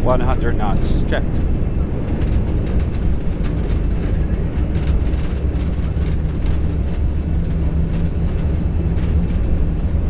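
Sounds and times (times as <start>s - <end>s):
jet engines rumbling: 0.0s - 10.0s
wheels rolling on runway: 1.4s - 10.0s.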